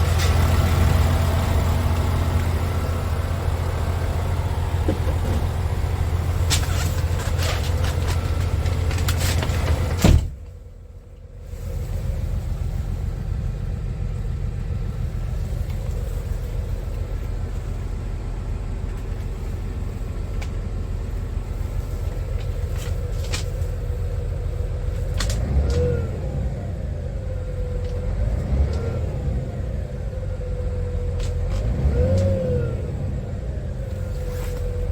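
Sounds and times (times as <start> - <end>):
truck engine revving: 0.0 - 10.2, 11.5 - 34.9
diesel truck engine idling: 0.0 - 34.9.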